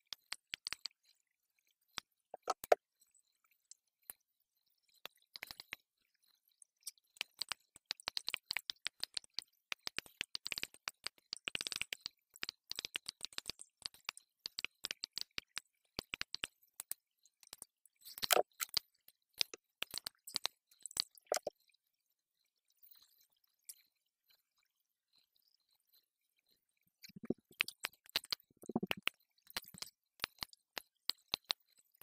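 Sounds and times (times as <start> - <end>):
tiny clicks and crackles: 0.0 - 32.0.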